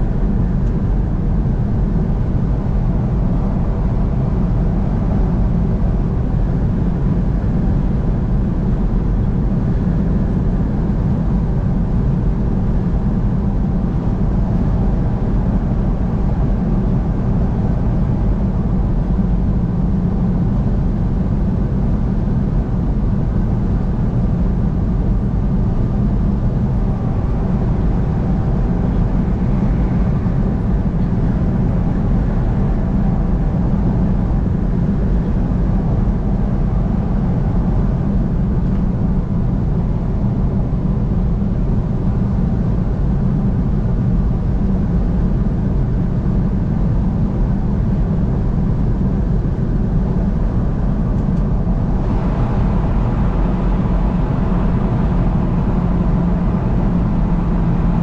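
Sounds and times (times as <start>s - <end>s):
vehicle road and engine noise: 0.0s - 58.0s.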